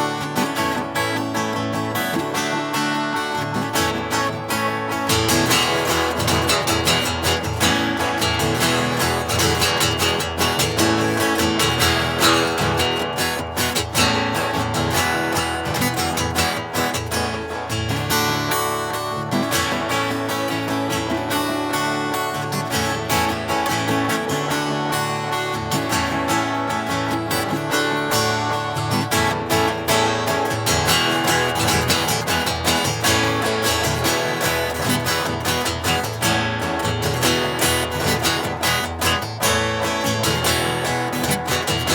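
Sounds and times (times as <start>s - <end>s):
acoustic guitar strummed: 0.0s - 41.9s.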